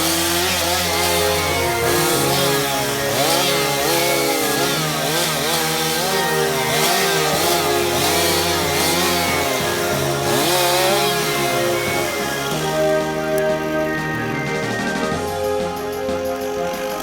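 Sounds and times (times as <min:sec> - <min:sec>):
background music: 0:00.0 - 0:17.0
chainsaw revving: 0:00.0 - 0:17.0.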